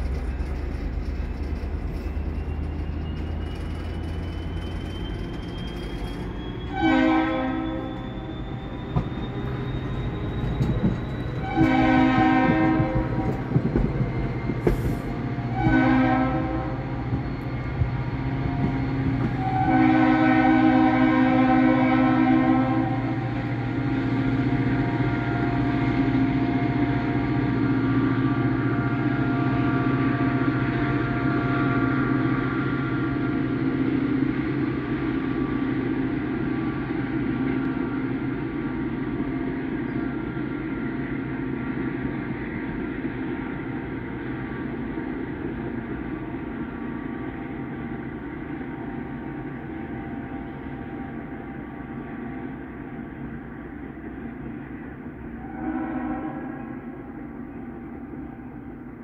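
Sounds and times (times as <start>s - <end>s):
diesel locomotive running: 0.0s - 59.0s
train wheels rolling on rails: 0.0s - 59.0s.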